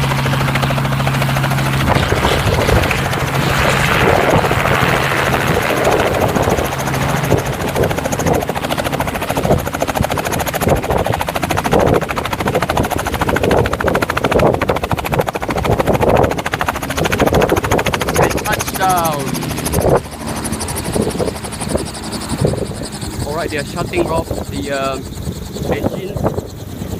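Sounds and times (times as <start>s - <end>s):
helicopter rotor and engine: 0.0s - 26.9s.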